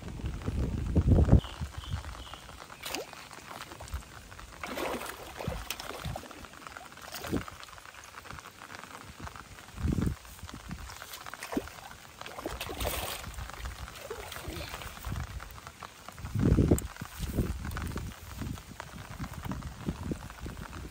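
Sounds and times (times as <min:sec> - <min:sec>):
light rain pattering on water: 0:00.0 - 0:20.9
fish splashing and thrashing: 0:01.4 - 0:20.4.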